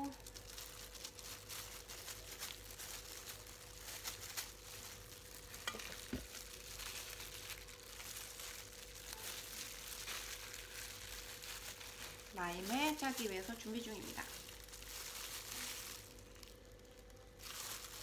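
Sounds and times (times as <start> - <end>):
faint steady hum: 0.0 - 18.0
plastic gloves rustling: 0.0 - 18.0.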